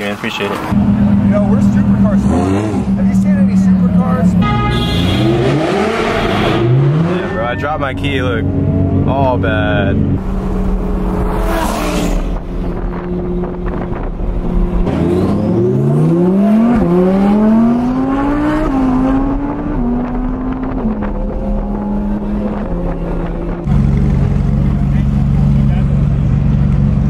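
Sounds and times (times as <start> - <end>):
car engine accelerating: 0.5 - 4.4, 5.0 - 27.0
deeper engine sound: 0.7 - 27.0.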